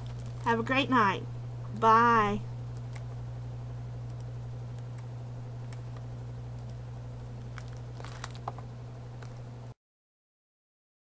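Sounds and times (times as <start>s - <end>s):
low electrical hum: 0.0s - 9.8s.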